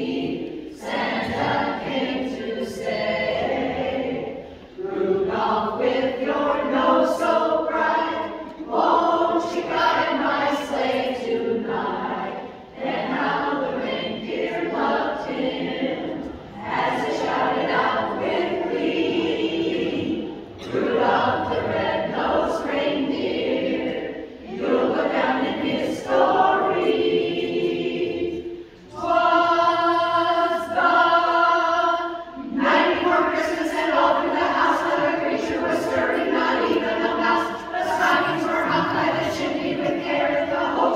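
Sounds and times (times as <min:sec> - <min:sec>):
women singing a cappella: 0:00.0 - 0:40.9.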